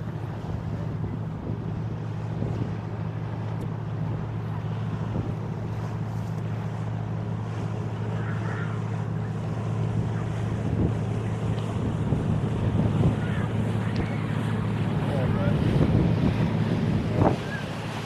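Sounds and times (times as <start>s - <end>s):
boat motor humming: 0.0s - 18.0s
wind buffeting microphone: 0.0s - 18.0s.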